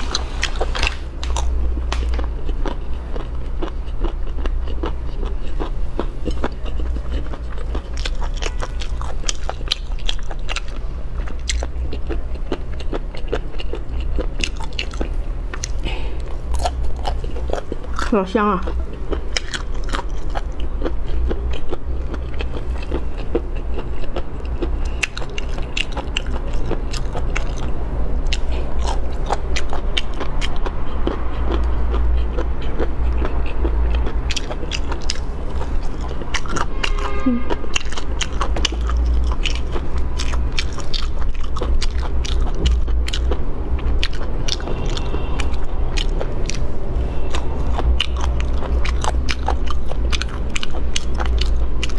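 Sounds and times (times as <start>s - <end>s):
low steady hum: 0.0s - 51.9s
person chewing crunchy snack: 0.0s - 51.9s.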